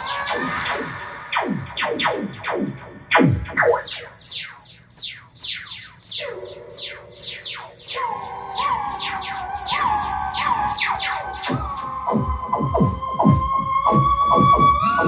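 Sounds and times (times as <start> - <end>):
rapid electronic zaps: 0.0 - 12.9.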